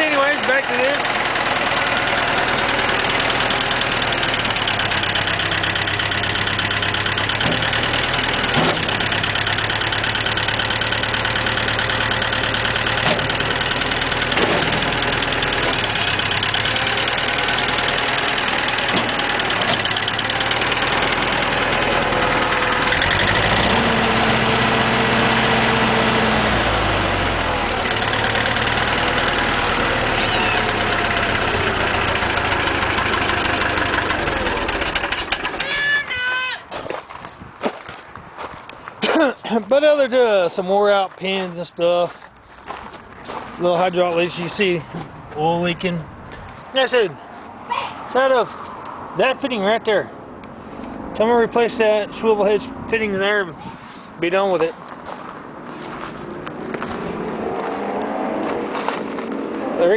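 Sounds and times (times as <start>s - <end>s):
backhoe engine idling: 0.0s - 57.0s.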